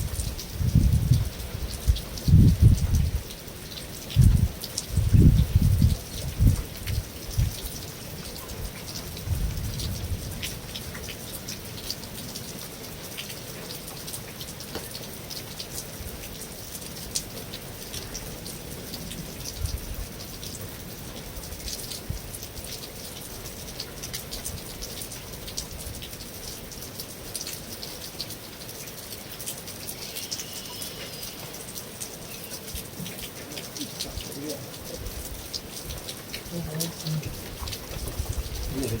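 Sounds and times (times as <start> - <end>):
rain on a metal roof: 0.0 - 39.0.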